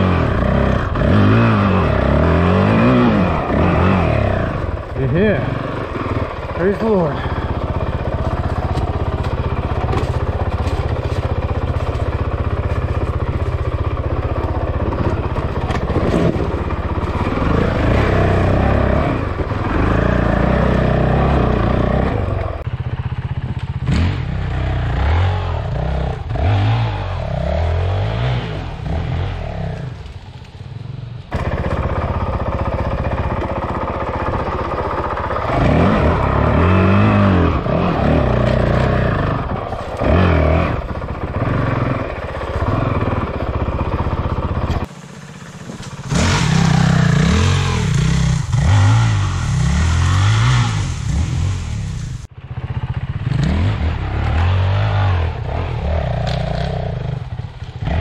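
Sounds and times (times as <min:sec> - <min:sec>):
dirt bike engine revving: 0:00.0 - 0:30.1, 0:31.3 - 0:58.0.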